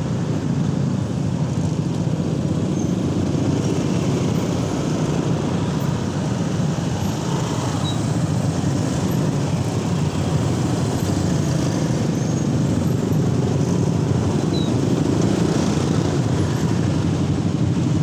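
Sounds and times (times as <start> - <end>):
road noise: 0.0 - 18.0
scooter engines rumbling: 0.0 - 18.0.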